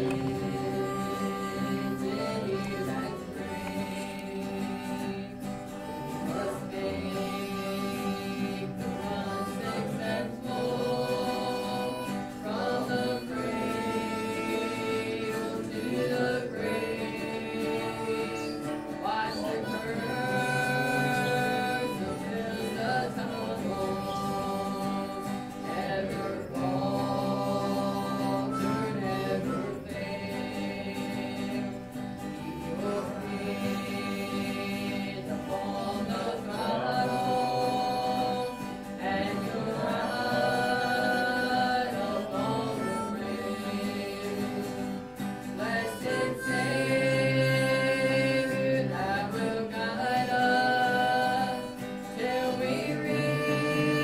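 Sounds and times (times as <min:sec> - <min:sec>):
guitars playing: 0:00.0 - 0:54.0
woman singing a hymn: 0:00.0 - 0:54.0.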